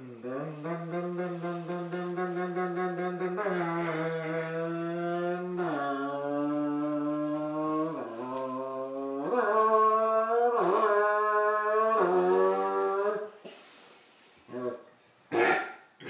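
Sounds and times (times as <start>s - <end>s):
man imitating revving engine: 0.0s - 13.3s.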